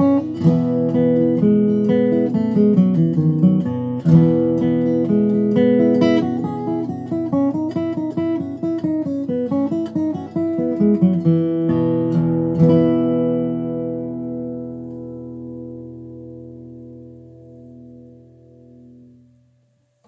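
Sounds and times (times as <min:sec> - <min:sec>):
acoustic guitar jig melody: 0:00.0 - 0:20.0
guitar chord ringing: 0:00.0 - 0:20.0.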